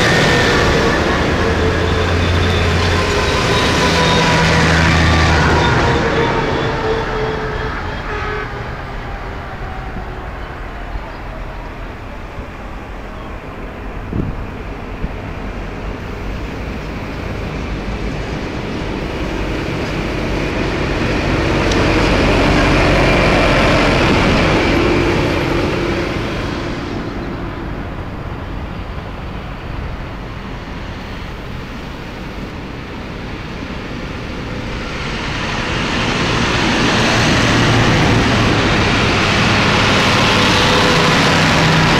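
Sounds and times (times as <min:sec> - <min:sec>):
diesel tractors driving past: 0:00.0 - 0:41.9
tyres on tarmac: 0:00.0 - 0:41.9.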